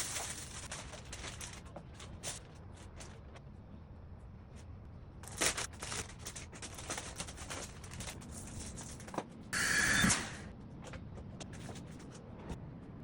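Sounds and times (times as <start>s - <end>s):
rustling and scraping of objects: 0.0s - 9.5s, 10.5s - 12.9s.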